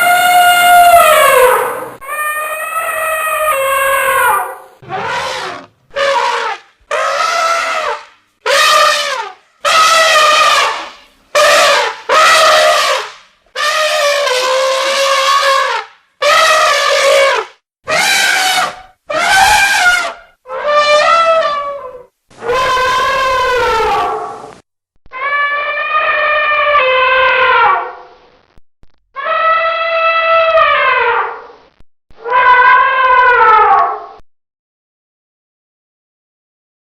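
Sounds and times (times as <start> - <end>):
elephant trumpeting: 0.0 - 24.5, 25.2 - 28.0, 29.2 - 31.4, 32.2 - 34.0.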